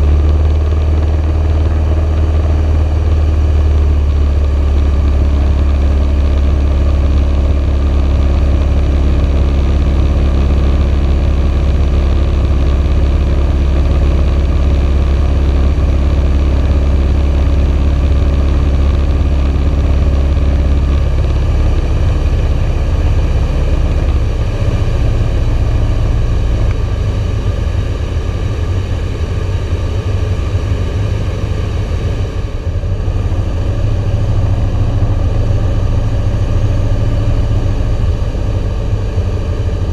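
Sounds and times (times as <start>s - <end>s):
aircraft engine drone from cabin: 0.0s - 39.9s.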